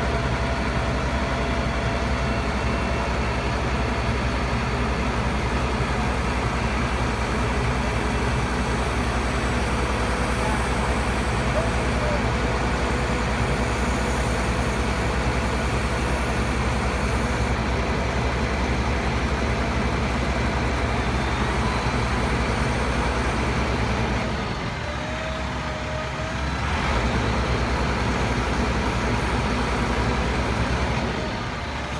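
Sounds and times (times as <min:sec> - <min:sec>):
truck engine droning: 0:00.0 - 0:31.9.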